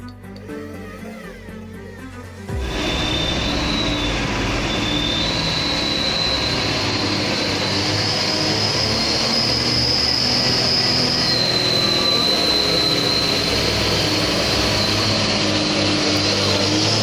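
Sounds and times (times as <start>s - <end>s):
rc truck motor whining: 0.0s - 17.0s.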